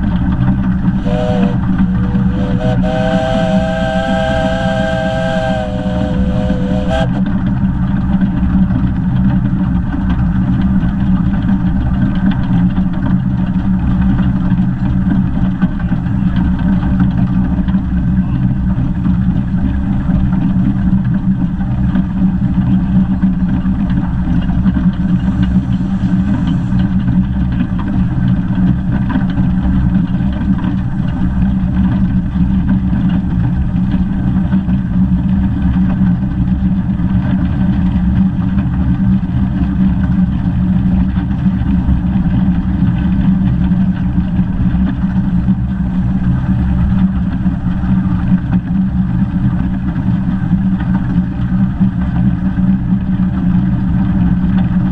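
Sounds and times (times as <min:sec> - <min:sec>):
steam train rumbling: 0:00.0 - 0:54.9.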